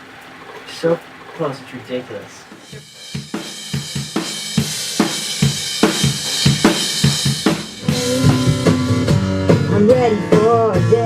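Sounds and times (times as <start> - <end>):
drum kit playing rock beat: 0.0 - 11.0.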